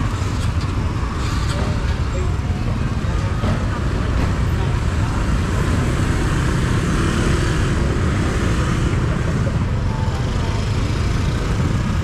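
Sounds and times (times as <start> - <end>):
motor traffic passing: 0.0 - 12.0.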